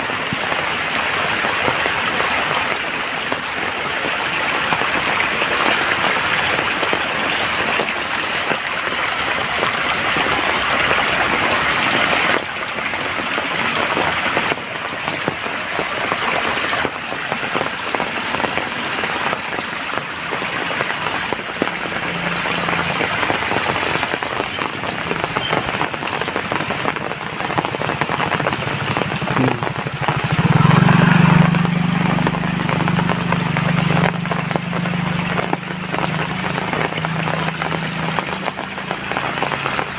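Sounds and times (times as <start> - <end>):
steady rain: 0.0 - 39.9
low engine hum: 0.1 - 39.9.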